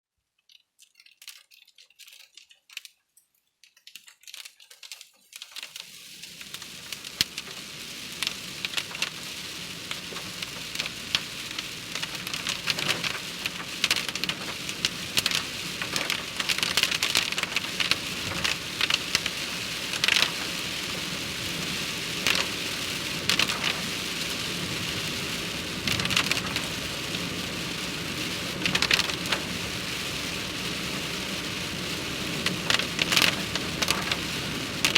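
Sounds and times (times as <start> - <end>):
rain falling: 5.4 - 34.9.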